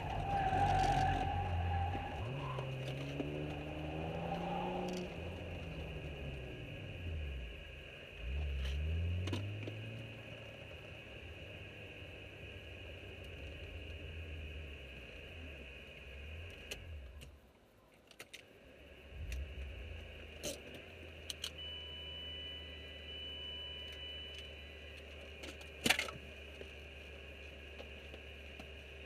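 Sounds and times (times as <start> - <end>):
car engine humming and idling: 0.0 - 29.0.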